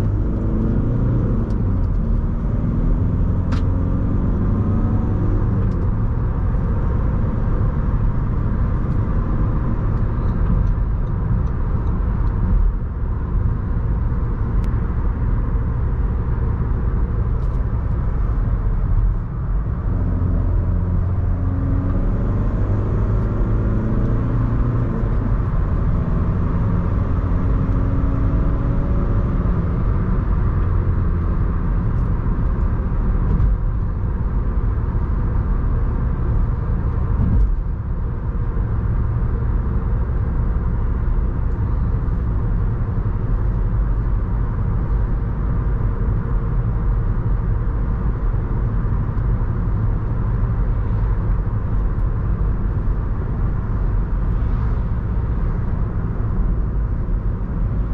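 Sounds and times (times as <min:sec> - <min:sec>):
car engine and tyre drone: 0:00.0 - 0:57.9.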